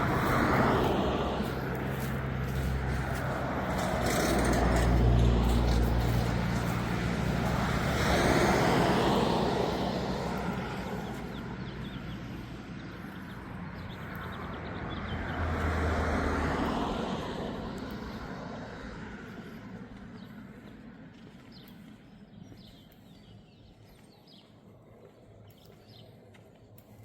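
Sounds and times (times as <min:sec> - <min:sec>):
motor vehicles passing by: 0:00.0 - 0:27.0.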